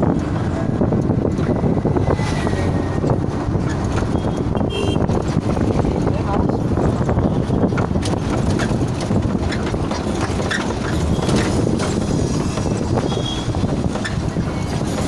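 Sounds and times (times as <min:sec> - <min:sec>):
vehicle rumble: 0:00.0 - 0:15.0
wind on microphone: 0:00.0 - 0:15.0.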